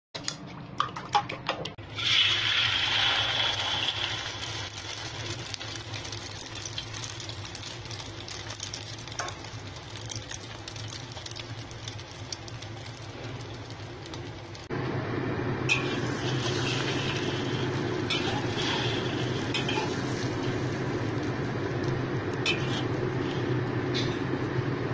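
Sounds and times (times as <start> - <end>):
egg sizzling in hot oil: 1.9 - 14.7, 15.7 - 24.2.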